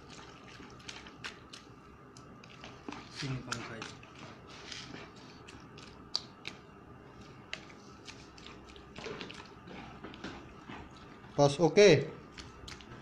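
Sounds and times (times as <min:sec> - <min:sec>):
wet hand kneading: 0:00.0 - 0:13.0.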